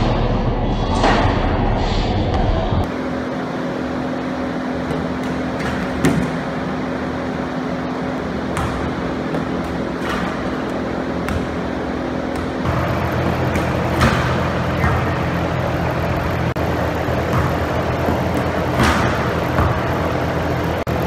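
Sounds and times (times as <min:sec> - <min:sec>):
air-handling hum: 0:00.0 - 0:21.0.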